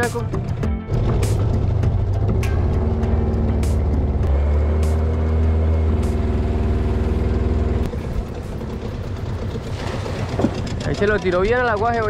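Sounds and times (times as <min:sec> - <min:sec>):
outboard motor running: 0:00.0 - 0:04.3, 0:05.3 - 0:12.0.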